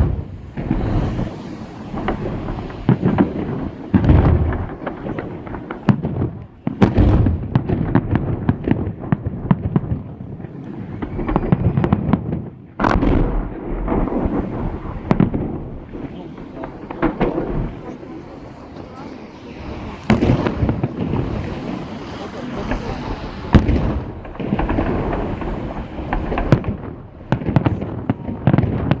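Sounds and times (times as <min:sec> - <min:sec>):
firework bangs with echoes: 0:00.0 - 0:29.0
firework crackle: 0:00.0 - 0:29.0.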